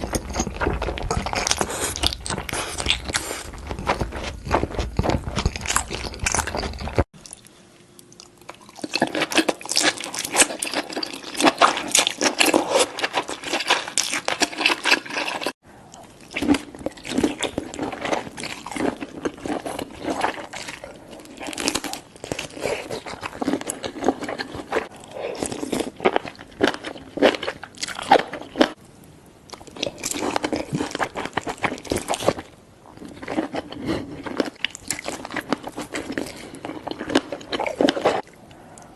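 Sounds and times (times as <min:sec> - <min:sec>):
chewing and crunching seafood: 0:00.0 - 0:28.8, 0:29.5 - 0:38.9.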